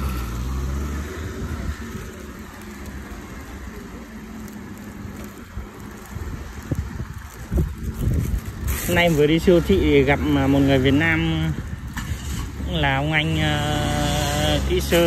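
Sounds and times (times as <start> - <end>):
rushing street noise: 0.0 - 15.0
vehicle engine hum: 0.0 - 15.0.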